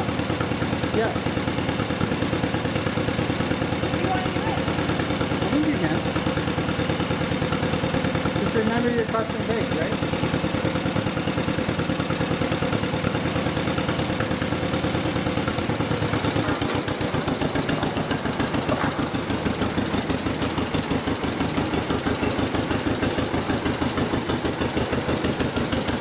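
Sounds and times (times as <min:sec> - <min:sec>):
two-cylinder engine putting: 0:00.0 - 0:26.0.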